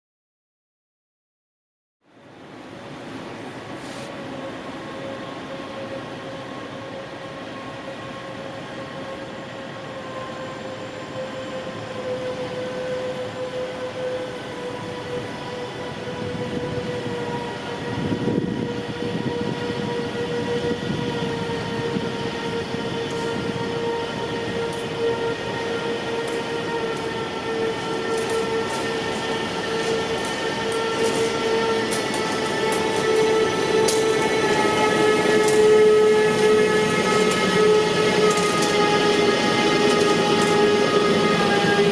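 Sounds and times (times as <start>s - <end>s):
electric locomotive whine: 2.1s - 41.9s
train wheels rumbling: 2.6s - 41.9s.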